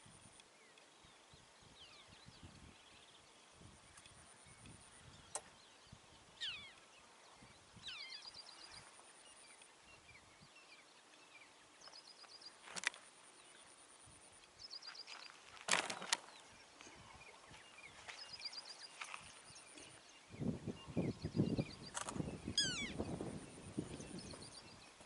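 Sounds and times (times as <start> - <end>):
birds calling and trilling: 0.0 - 25.0.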